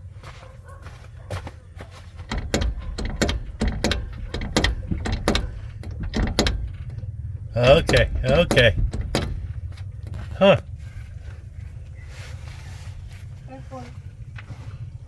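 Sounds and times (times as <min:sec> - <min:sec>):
suspension clunks: 0:02.2 - 0:15.0.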